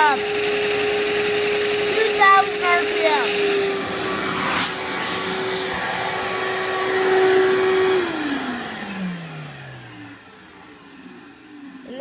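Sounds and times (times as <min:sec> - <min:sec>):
vacuum cleaner whine: 0:00.0 - 0:12.0.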